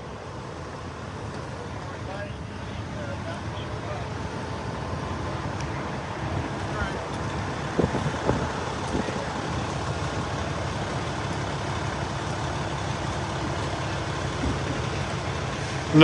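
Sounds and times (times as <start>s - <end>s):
large vehicle engine idling: 0.0s - 16.0s.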